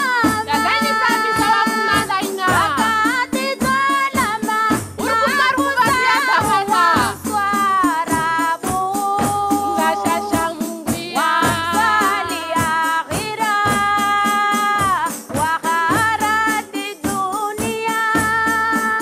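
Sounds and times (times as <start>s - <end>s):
frame drums with jingles: 0.0s - 19.0s
women singing: 0.0s - 19.0s.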